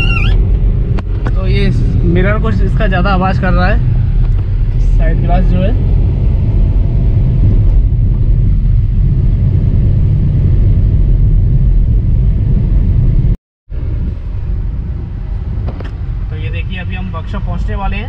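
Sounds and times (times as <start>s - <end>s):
road rumble: 0.0s - 18.0s
wind buffeting through open window: 0.0s - 18.0s.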